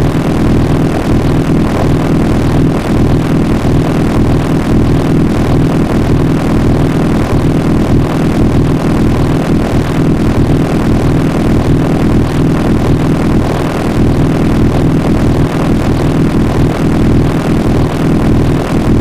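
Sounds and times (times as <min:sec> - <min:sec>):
robotic low drone with flutter: 0:00.0 - 0:19.0.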